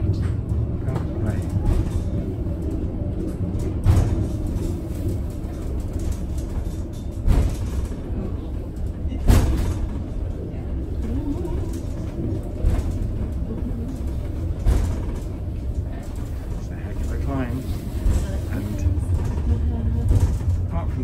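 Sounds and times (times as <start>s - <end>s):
knocks in funicular cabin: 0.0s - 2.3s, 3.2s - 4.7s, 5.4s - 10.4s, 11.0s - 17.1s, 18.0s - 21.0s
funicular car rumbling: 0.0s - 21.0s.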